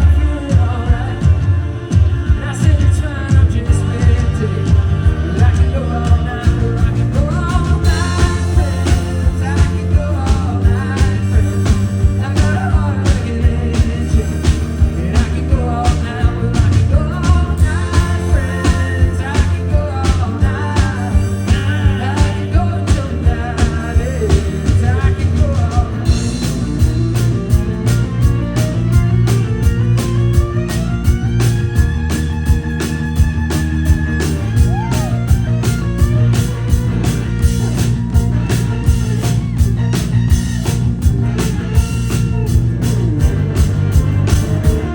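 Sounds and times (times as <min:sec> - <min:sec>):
drum beat: 0:00.0 - 0:44.9
rock band playing: 0:00.0 - 0:44.9.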